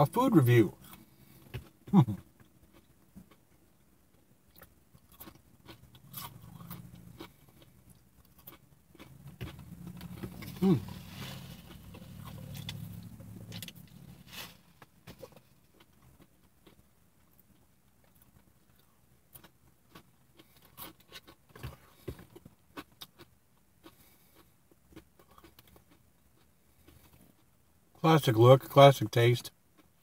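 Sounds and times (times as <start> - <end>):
faint chewing: 0.8 - 27.5.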